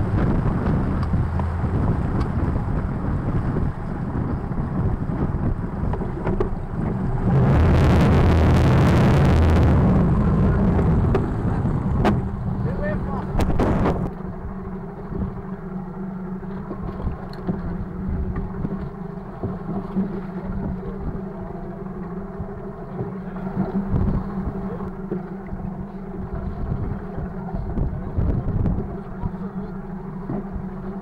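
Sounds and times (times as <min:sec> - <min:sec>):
outboard engines idling: 0:00.0 - 0:31.0
water noise: 0:00.0 - 0:31.0
wind: 0:00.0 - 0:31.0.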